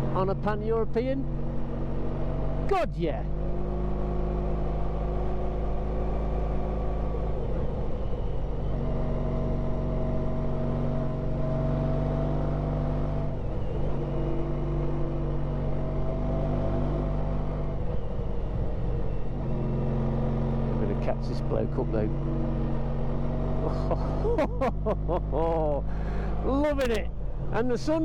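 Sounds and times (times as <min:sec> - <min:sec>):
motorcycle engine pulling steadily: 0:00.0 - 0:28.0.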